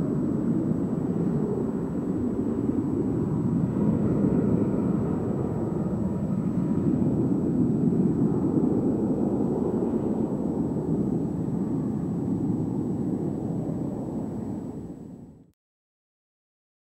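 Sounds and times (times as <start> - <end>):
jet engines rumbling: 0.0 - 15.5.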